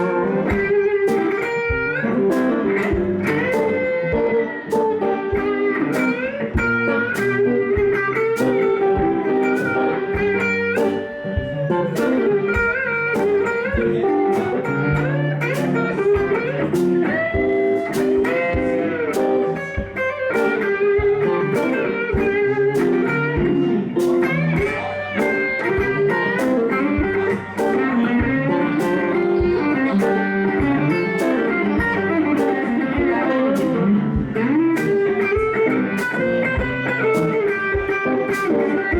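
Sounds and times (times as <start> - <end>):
band accompaniment: 0.0 - 38.9
electric guitar solo: 0.0 - 38.9.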